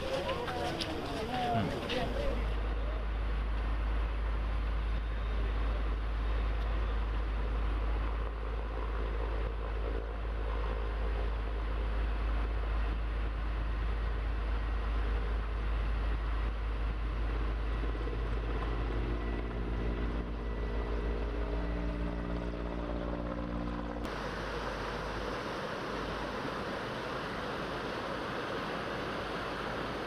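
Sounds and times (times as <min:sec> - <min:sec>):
engine low rumble: 0:00.0 - 0:30.0
steady pitched hum: 0:00.0 - 0:30.0.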